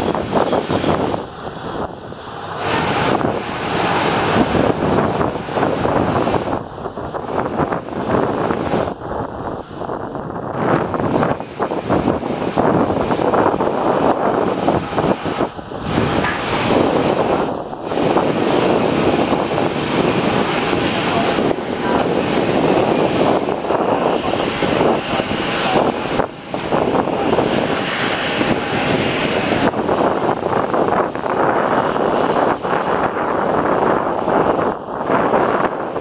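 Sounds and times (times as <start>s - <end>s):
jet engines at low power: 0.0s - 36.0s
wind buffeting microphone: 0.0s - 36.0s.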